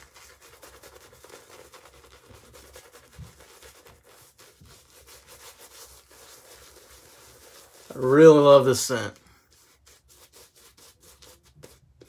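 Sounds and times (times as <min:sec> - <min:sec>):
shaving brush rubbing on skin: 0:00.0 - 0:12.0.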